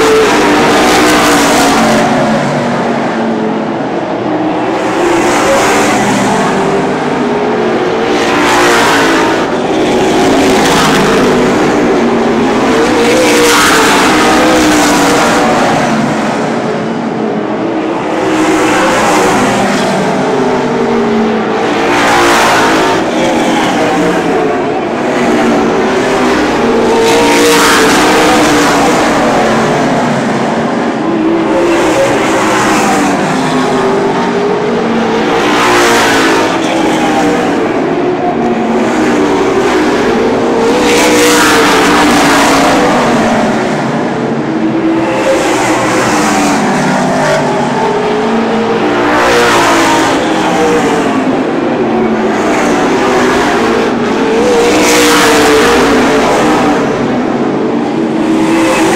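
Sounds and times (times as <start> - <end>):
race car engines: 0.0 - 58.9.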